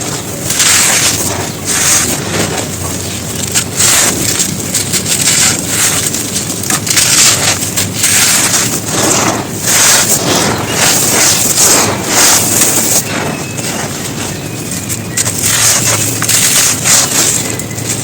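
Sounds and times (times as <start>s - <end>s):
dry earth crumbling and crunching: 0.0s - 18.0s.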